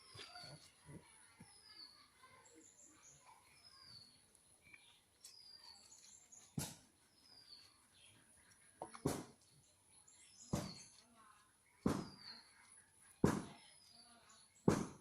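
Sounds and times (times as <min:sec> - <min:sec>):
faint bird chirps: 0:00.0 - 0:14.7.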